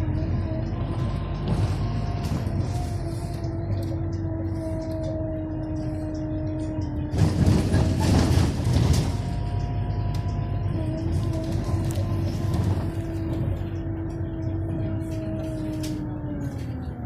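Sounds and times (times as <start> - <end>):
bus drivetrain humming and whining: 0.0 - 17.0.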